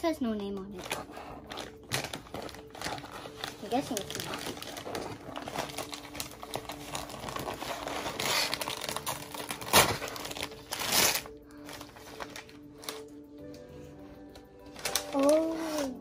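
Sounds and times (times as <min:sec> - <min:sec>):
plastic bag crinkling: 0:00.5 - 0:13.2, 0:14.4 - 0:16.0
plastic bag ripping: 0:00.8 - 0:13.1, 0:14.7 - 0:16.0.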